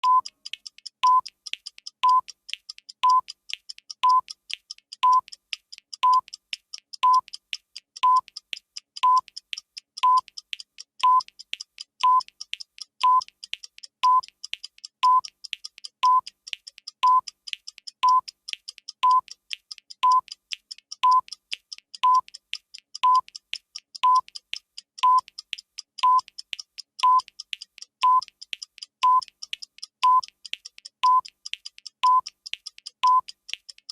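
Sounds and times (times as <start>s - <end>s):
fast clock-like ticking: 0.0s - 33.9s.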